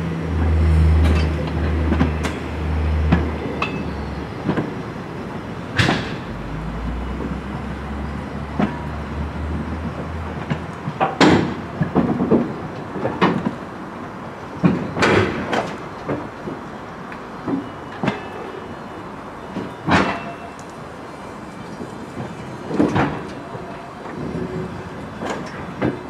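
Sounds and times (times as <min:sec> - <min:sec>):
train cars rumbling on track: 0:00.0 - 0:26.0.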